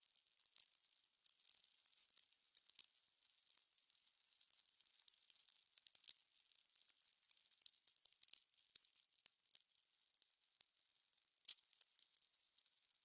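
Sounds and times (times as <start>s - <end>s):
faint steady hiss: 0.0s - 13.0s
fire crackling and popping: 0.1s - 13.0s.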